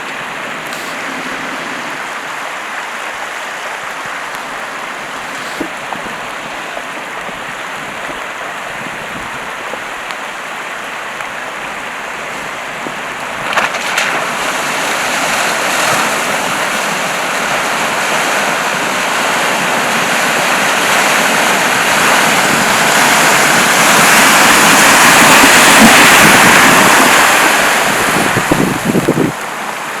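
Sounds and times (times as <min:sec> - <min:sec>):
rushing splashing river water: 0:00.0 - 0:30.0.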